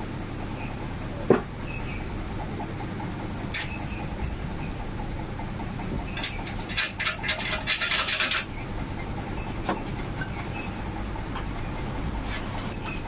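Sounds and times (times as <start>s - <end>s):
steady low rumble: 0.0s - 7.1s, 8.4s - 13.0s.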